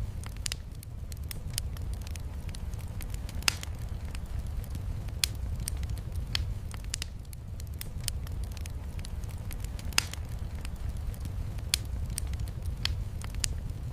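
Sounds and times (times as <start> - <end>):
low rumble: 0.0 - 13.9
wood fire crackling: 0.0 - 13.9.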